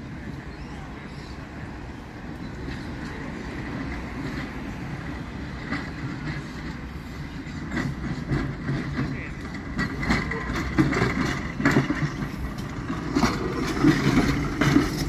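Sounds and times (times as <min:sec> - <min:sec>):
tram wheels rumbling on rail: 0:00.0 - 0:15.0.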